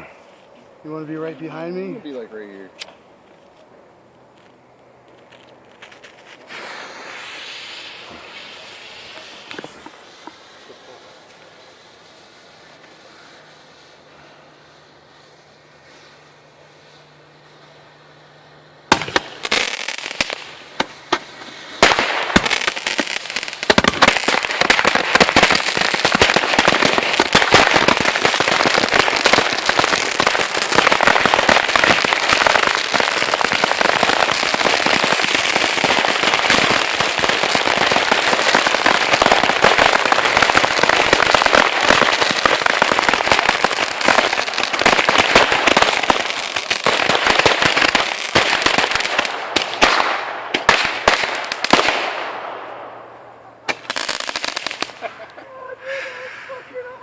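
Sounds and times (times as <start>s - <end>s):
steady hiss: 0.0s - 57.0s
roman candles firing: 5.2s - 56.6s.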